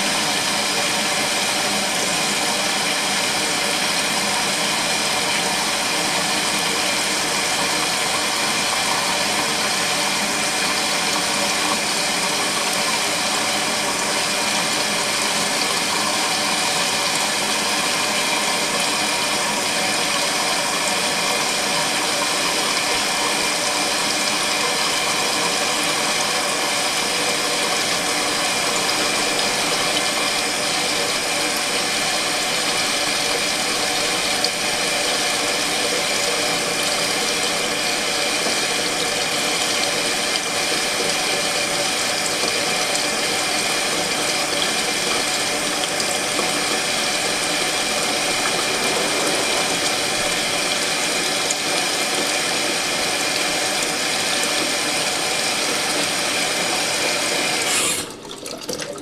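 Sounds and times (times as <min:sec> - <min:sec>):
washing machine motor hum: 0:00.0 - 0:59.0
water churning: 0:00.0 - 0:59.0.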